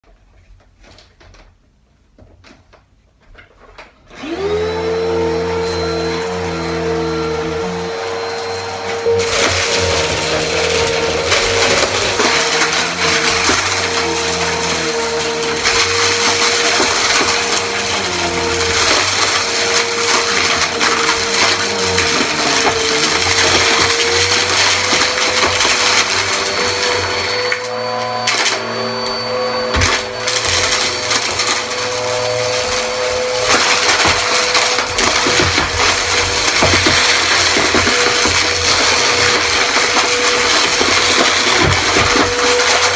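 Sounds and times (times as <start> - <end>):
vacuum cleaner motor whine: 4.1 - 42.9
brushroll crunching and rattling: 5.6 - 42.9.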